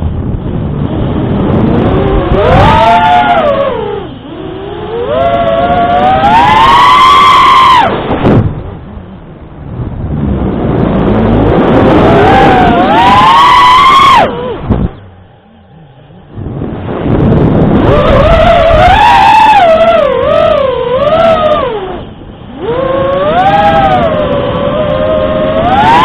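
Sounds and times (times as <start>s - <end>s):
drone motors whining: 0.6s - 26.0s.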